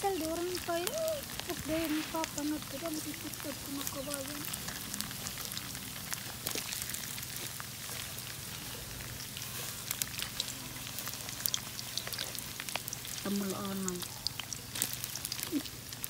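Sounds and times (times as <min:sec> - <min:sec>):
sizzling in hot oil: 0:00.0 - 0:16.0.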